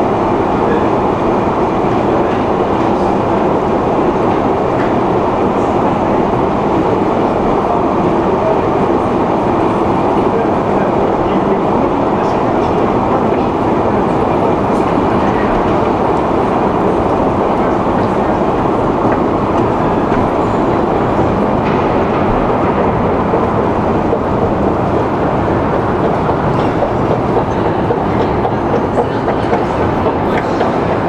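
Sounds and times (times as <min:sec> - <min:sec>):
metro machinery rumbling: 0:00.0 - 0:31.0.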